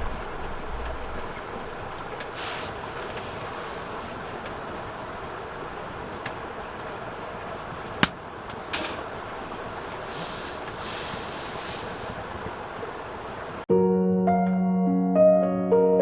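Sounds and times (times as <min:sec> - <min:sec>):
fire popping and crackling: 0:00.0 - 0:13.6
wood fire hissing: 0:00.0 - 0:13.7.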